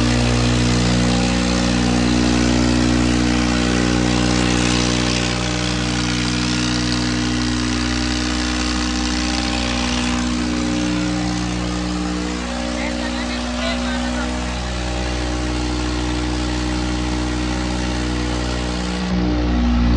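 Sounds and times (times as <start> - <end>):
tractor diesel engines running hard: 0.0 - 19.9.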